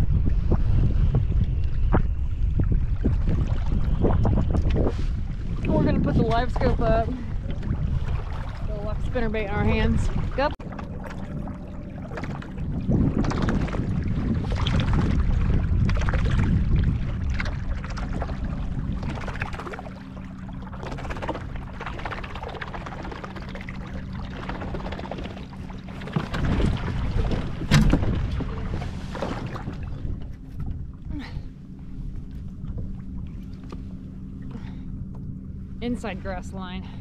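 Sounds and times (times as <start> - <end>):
waves slapping kayak hull: 0.0 - 36.9
steady low hum: 0.0 - 37.0
wind rumbling on microphone: 0.0 - 37.0.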